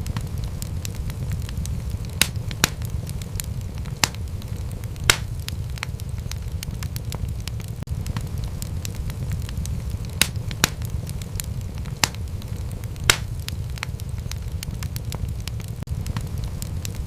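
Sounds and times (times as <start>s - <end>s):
loud fire snaps: 0.0s - 17.0s
wood fire crackling: 0.0s - 17.0s.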